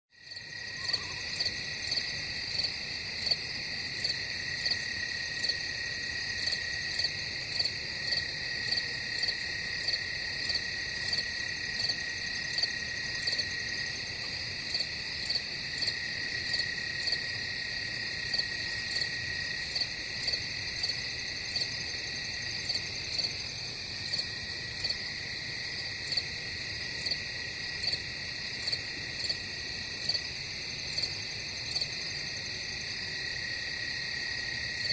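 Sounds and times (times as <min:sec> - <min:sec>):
crickets trilling: 0:00.2 - 0:34.9
loud cricket chirp: 0:00.2 - 0:34.9.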